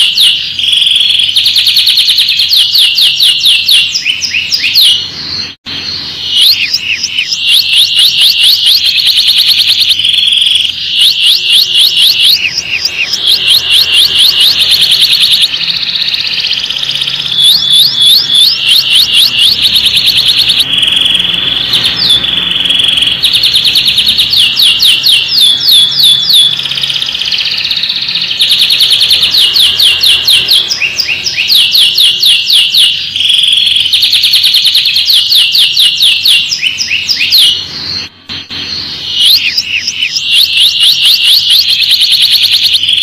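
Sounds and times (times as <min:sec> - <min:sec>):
canary singing trills: 0:00.0 - 0:43.0.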